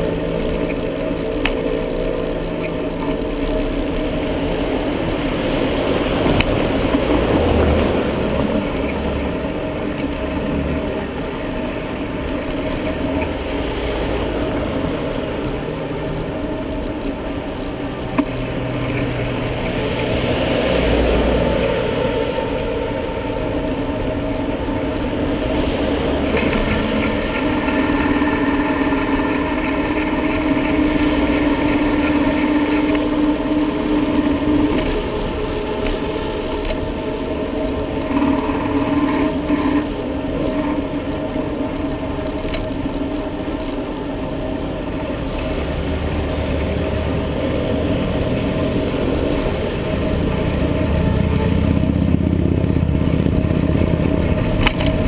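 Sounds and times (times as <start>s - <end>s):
engine hum of passing vehicles: 0.0s - 55.0s
road traffic noise: 0.0s - 55.0s.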